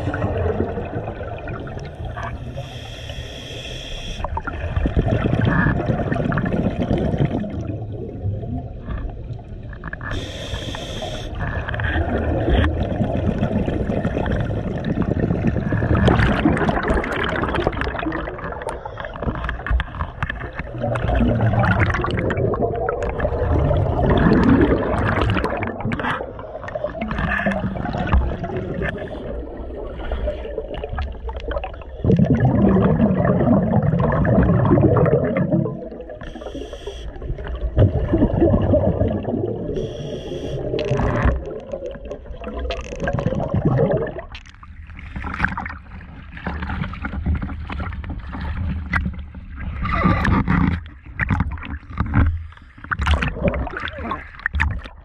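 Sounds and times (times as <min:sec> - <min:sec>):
underwater breath bubbles gurgling: 0:00.0 - 0:55.0.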